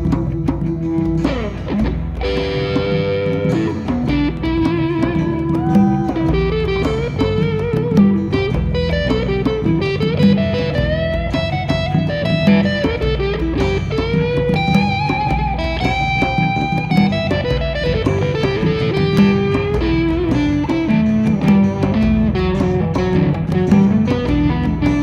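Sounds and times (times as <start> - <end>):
bass guitar: 0.0 - 25.0
electric guitar lead line: 0.0 - 25.0
plucked acoustic guitar: 0.0 - 25.0.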